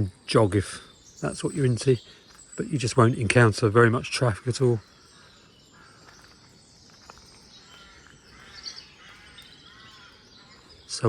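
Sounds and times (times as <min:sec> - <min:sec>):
outdoor background hiss: 0:00.0 - 0:11.0
small birds chirping: 0:00.0 - 0:11.0.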